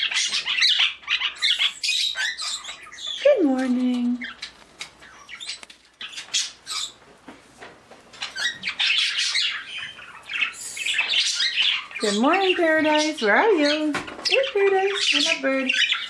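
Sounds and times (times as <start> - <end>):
parakeets chirping and squawking: 0.0 - 7.1, 8.0 - 16.0.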